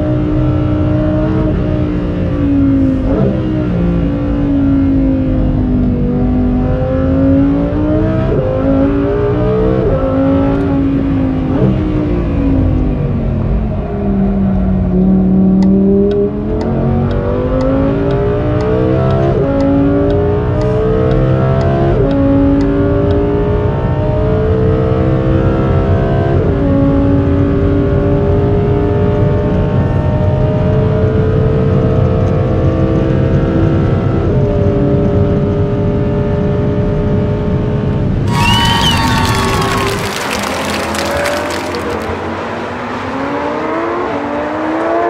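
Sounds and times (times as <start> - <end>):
sports car engine accelerating: 0.0 - 38.5.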